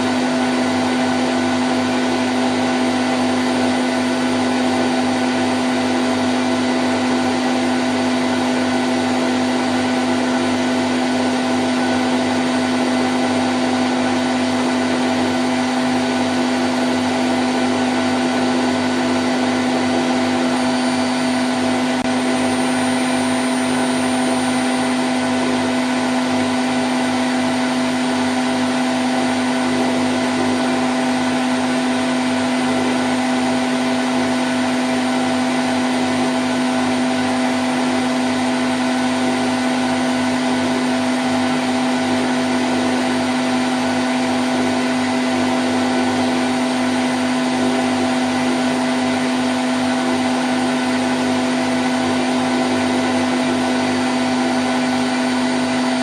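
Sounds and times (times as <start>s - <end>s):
washing machine spin cycle: 0.0s - 56.0s.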